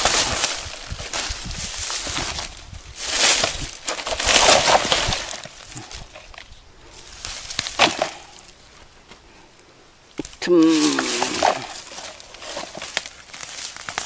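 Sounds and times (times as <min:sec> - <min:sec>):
dry leaves and twigs rustling: 0:00.0 - 0:14.0.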